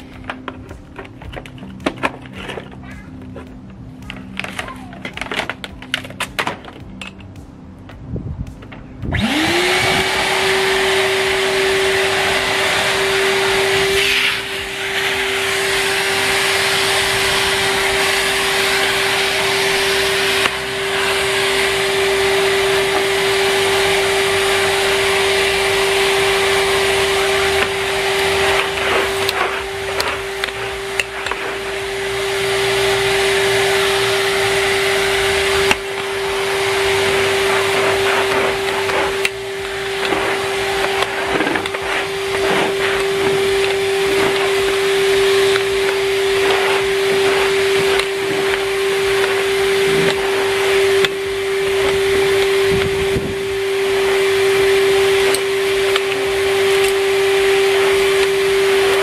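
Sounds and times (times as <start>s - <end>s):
rush of air: 7.4s - 59.0s
vacuum cleaner motor whine: 9.0s - 59.0s.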